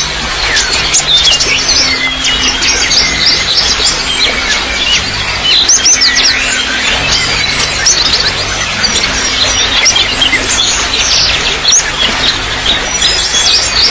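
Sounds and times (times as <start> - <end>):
running water trickling: 0.0 - 13.9
small birds chirping: 0.0 - 13.9.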